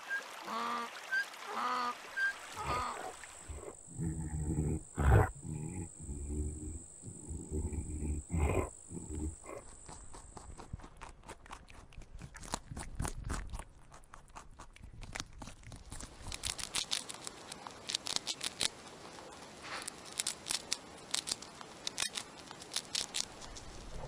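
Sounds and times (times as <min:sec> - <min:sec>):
hamster chewing food: 0:03.6 - 0:24.0.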